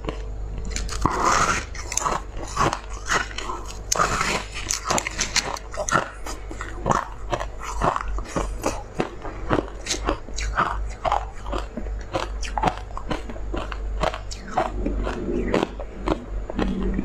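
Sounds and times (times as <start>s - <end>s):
crunching ice being chewed: 0.0s - 17.0s.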